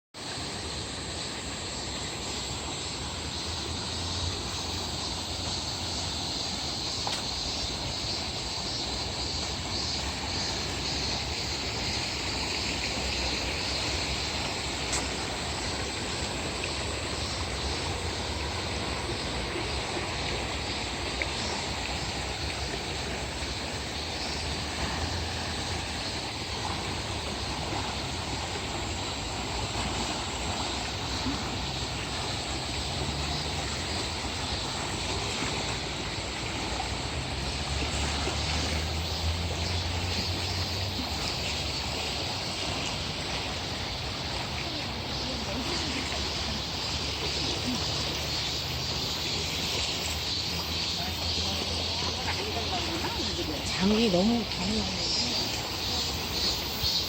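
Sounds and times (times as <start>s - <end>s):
cicadas droning: 0.2s - 57.0s.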